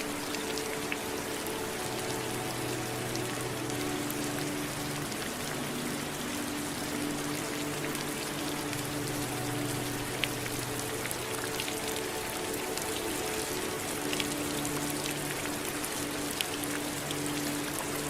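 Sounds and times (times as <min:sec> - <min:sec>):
raindrops ticking: 0:00.0 - 0:18.0
steady rain hiss: 0:00.0 - 0:18.0.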